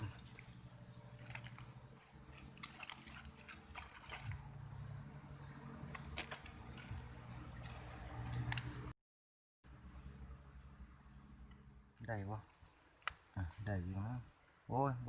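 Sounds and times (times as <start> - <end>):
insects buzzing: 0.0 - 9.0, 9.6 - 15.0.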